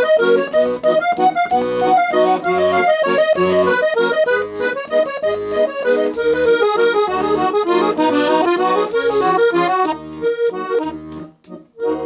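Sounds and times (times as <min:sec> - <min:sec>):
accordion playing hymn tune: 0:00.0 - 0:12.0.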